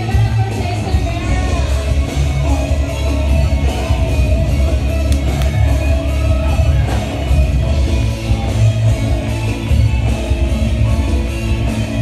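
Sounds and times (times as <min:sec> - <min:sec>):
rock music with singing: 0:00.0 - 0:12.0.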